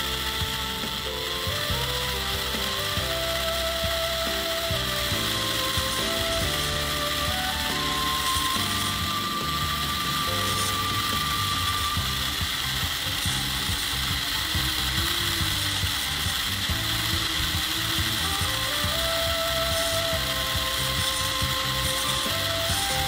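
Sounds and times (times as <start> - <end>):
background music: 0.0 - 23.0
small motor and gears whirring: 0.0 - 23.0.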